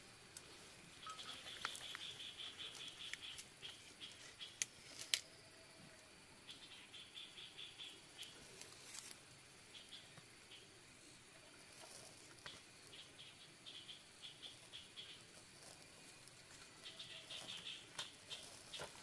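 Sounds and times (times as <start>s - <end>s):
insect chirping trill: 0.9s - 19.0s.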